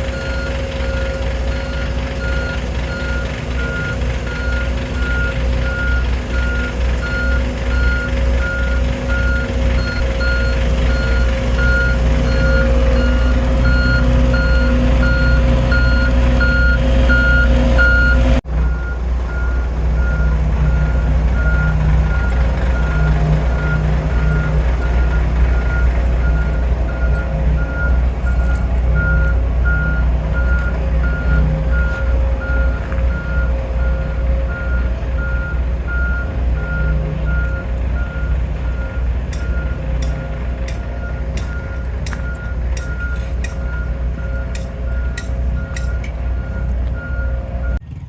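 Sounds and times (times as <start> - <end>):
reversing alarm beeping: 0.0 - 47.8
low engine rumble: 0.0 - 48.0.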